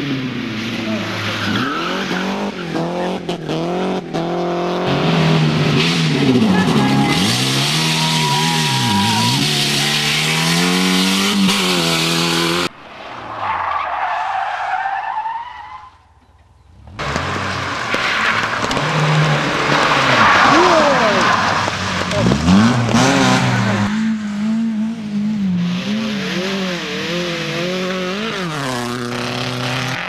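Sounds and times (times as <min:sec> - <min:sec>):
rally car engine revving: 0:00.0 - 0:12.8, 0:16.7 - 0:30.0
tyres skidding: 0:00.0 - 0:30.0.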